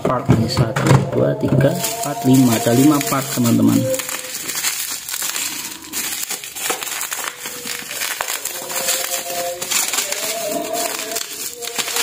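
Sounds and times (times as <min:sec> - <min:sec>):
bubble wrap crinkling: 0:01.4 - 0:12.0.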